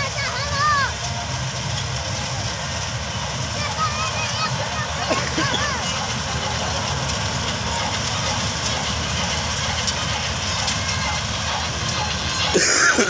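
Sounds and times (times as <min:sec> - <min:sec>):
combine harvester working: 0:00.0 - 0:13.0
tractor engine running: 0:00.0 - 0:13.0.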